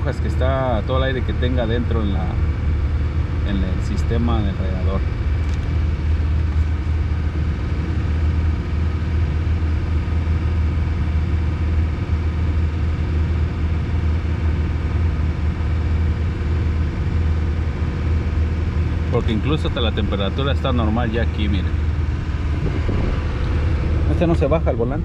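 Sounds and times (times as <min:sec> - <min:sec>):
pickup engine running: 0:00.0 - 0:25.0.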